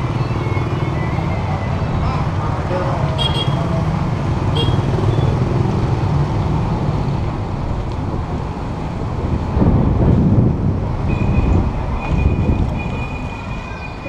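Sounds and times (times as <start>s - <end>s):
motor vehicles and motorbikes rumbling: 0.0s - 14.0s.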